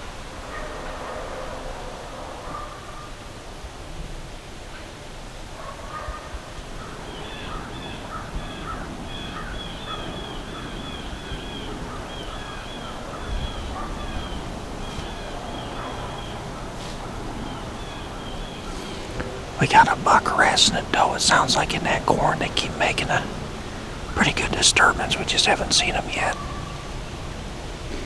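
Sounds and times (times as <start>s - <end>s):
low wind rumble: 0.0s - 27.9s.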